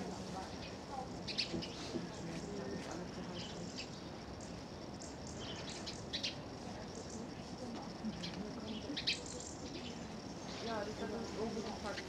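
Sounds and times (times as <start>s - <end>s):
murmur of voices: 0.0s - 12.0s.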